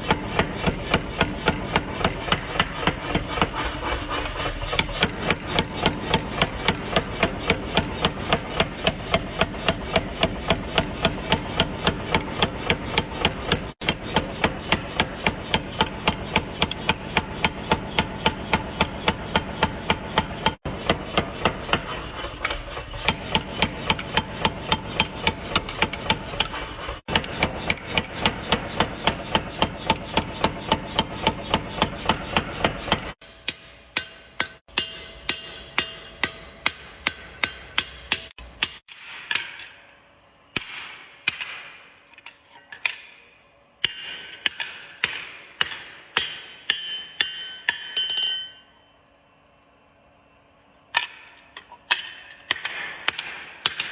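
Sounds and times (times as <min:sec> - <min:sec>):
hammer striking steel on anvil: 0:05.0 - 0:21.9, 0:23.0 - 0:39.9, 0:40.6 - 0:48.9, 0:51.0 - 0:53.9.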